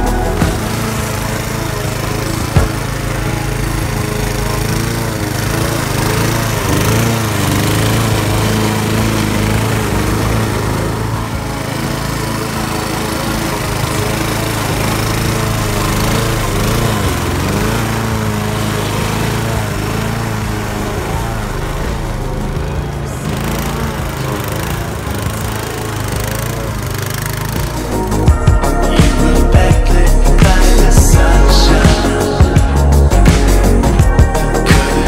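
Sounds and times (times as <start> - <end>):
lawn mower engine labouring: 0.0 - 35.0.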